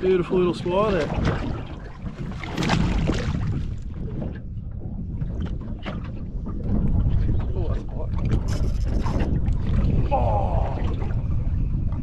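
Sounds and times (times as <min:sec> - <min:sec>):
water slapping at hull: 0:00.0 - 0:12.0
wind buffeting microphone: 0:00.0 - 0:12.0.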